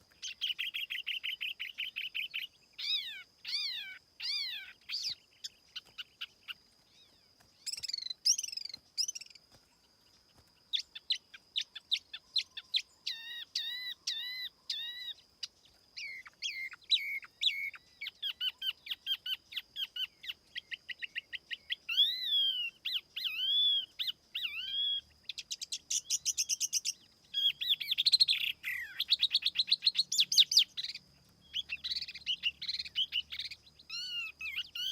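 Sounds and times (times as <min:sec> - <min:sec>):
songbird singing whistles and chirps: 0:00.0 - 0:34.9.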